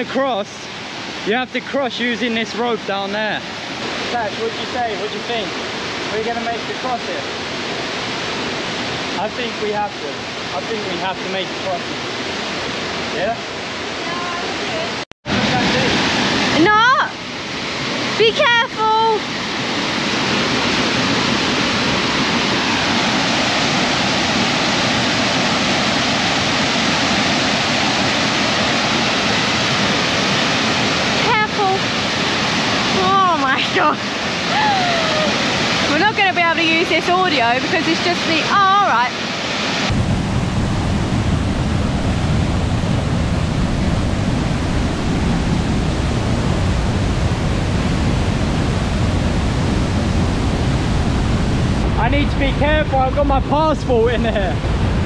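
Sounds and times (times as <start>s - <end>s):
waterfall and rushing river: 0.0s - 55.0s.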